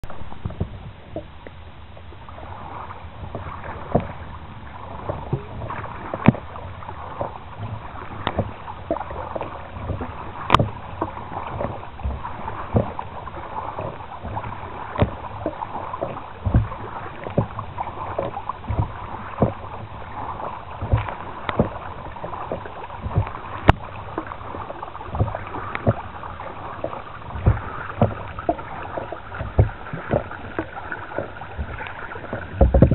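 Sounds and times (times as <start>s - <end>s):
paddle splashing and dripping: 0.0s - 32.9s
water washing along hull: 0.0s - 32.9s.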